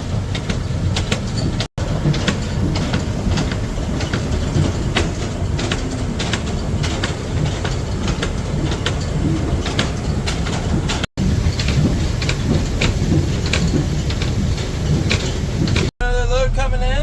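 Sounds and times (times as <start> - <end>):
rattling and clatter: 0.0 - 16.0
heavy truck rumbling: 0.0 - 17.0.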